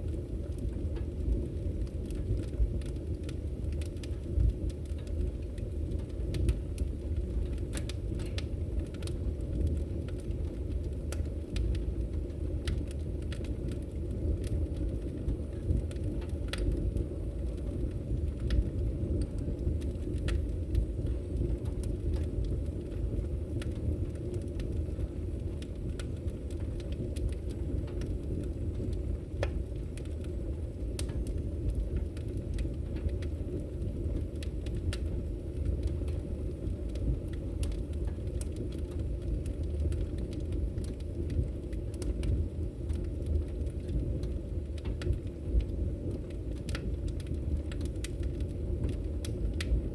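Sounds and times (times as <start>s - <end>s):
fire crackling and popping: 0.0s - 49.9s
low roar of flames: 0.0s - 49.9s.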